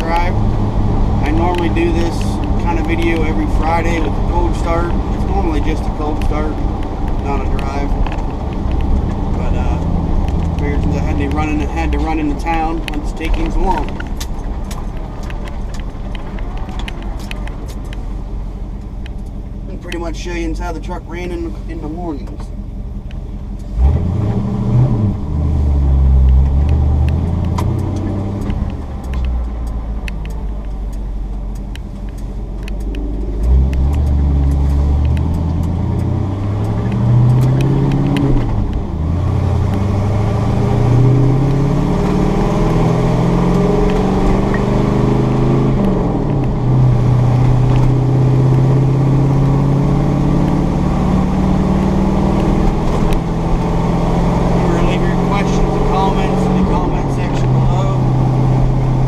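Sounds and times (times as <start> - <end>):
pickup truck engine accelerating: 0.0 - 21.1, 22.3 - 59.0.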